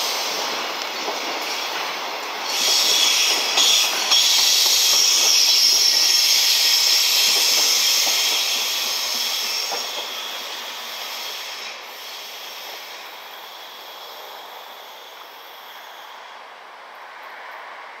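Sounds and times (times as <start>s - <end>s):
hiss of wheels on rail: 0.0s - 18.0s.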